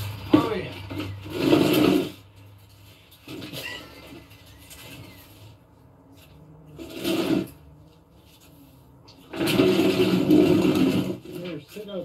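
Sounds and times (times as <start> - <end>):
plastic chair scraping: 0.0 - 5.6, 6.7 - 12.0.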